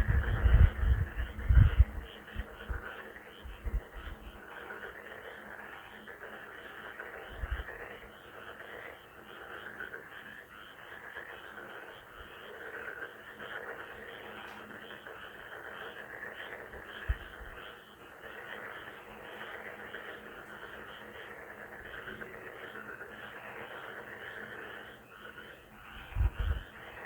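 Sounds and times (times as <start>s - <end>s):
chorus of frogs croaking: 0.0s - 27.0s.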